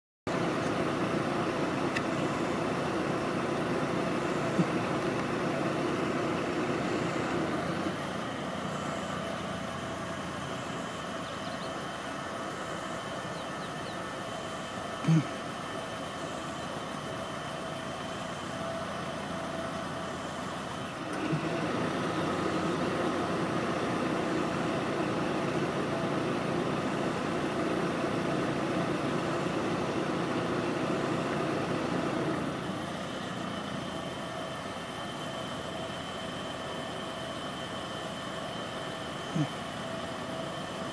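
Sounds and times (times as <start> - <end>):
vehicle engine rumble: 0.3 - 40.9.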